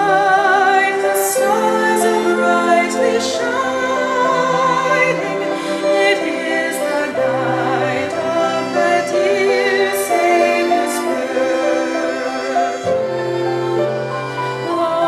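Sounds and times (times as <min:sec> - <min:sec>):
choir singing in parts: 0:00.0 - 0:15.0.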